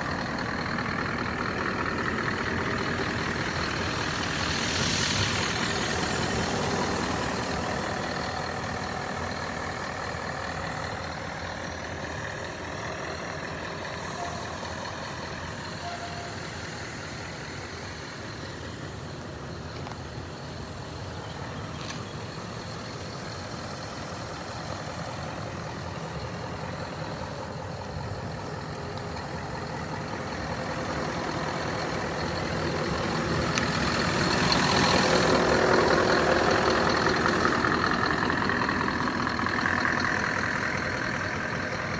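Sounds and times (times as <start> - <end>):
truck diesel engine idling: 0.0 - 41.9.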